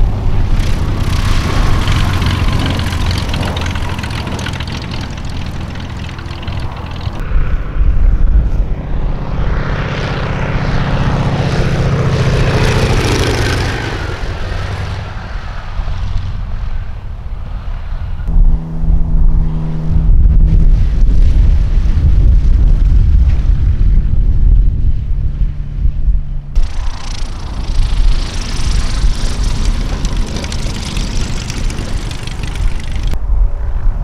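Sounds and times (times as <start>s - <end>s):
light plane engine running: 0.0s - 33.2s
propeller airplane passing: 0.0s - 34.0s
wind rumble on microphone: 0.0s - 34.0s.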